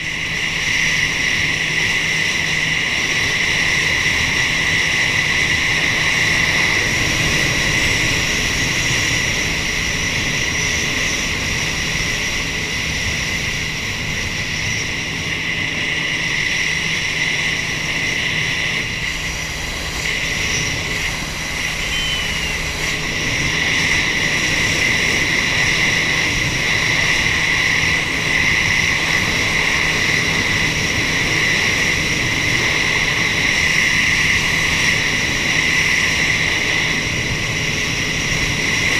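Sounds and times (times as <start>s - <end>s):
jet ski engine whine: 0.0s - 38.9s.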